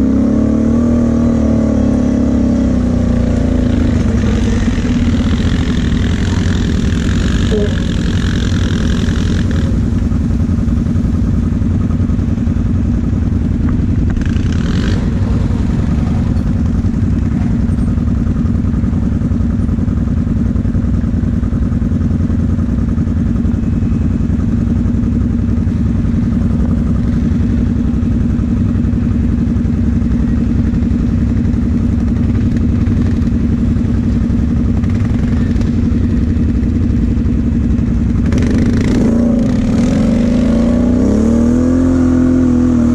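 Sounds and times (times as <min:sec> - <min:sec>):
atv engine running steadily: 0:00.0 - 0:42.9.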